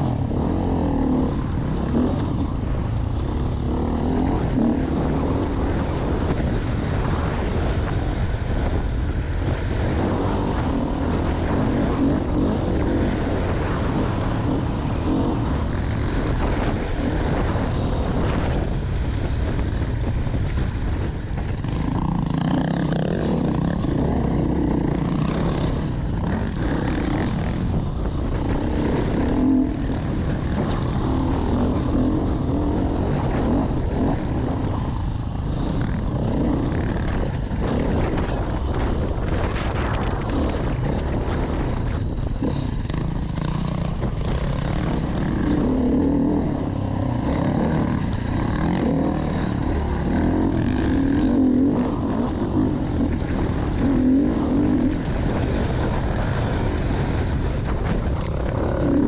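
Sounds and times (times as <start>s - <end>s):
dirt bike engine revving: 0.0s - 20.0s, 20.7s - 59.0s.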